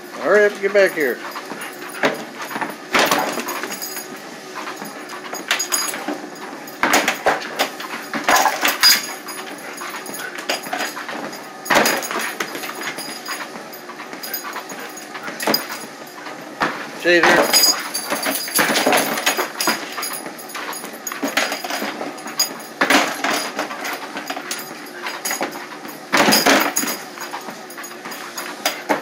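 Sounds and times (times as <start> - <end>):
treadmill running: 0.0 - 29.0.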